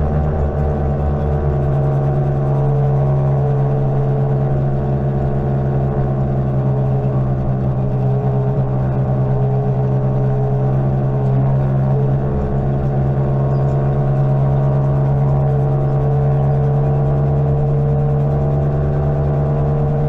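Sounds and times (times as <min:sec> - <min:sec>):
wind and road rumble: 0:00.0 - 0:20.0.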